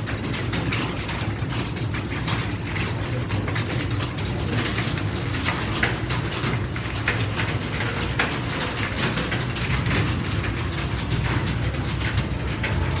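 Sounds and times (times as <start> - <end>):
keyboards typing clatter: 0.0 - 13.0.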